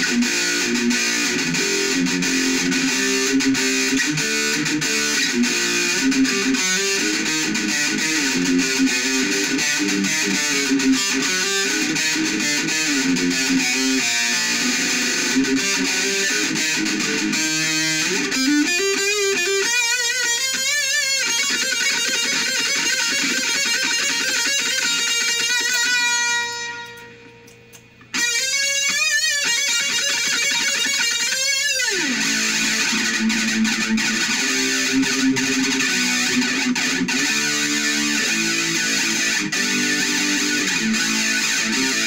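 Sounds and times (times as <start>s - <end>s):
distorted electric guitar: 0.0s - 42.0s.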